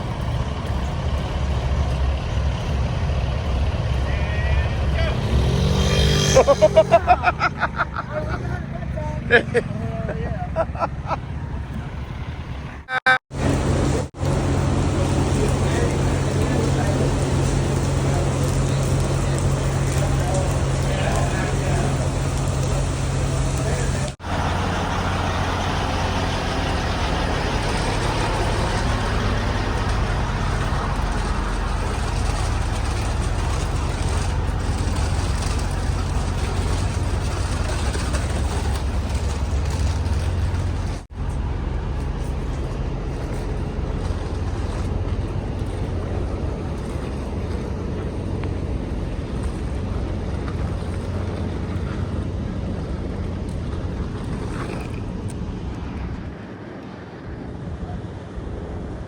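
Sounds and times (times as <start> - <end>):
truck diesel engine rumbling: 0.0 - 59.0.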